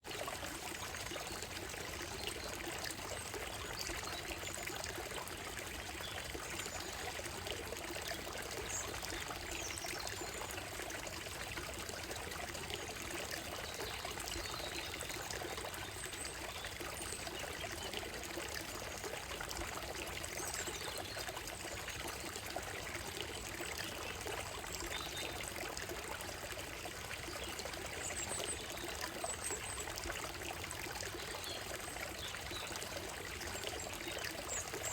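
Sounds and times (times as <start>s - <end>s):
stream trickling over stones: 0.0s - 34.9s.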